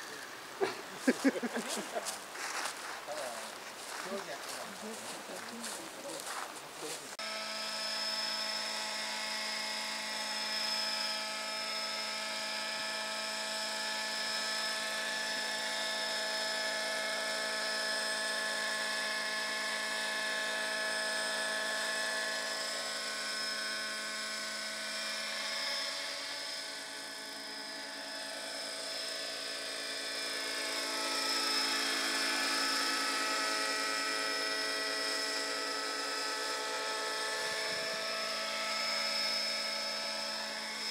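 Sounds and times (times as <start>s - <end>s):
model helicopter motor whine: 0.0s - 40.9s.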